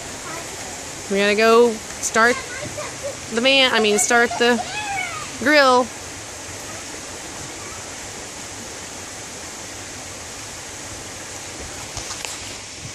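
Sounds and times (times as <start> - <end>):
creek water rushing: 0.0 - 12.9.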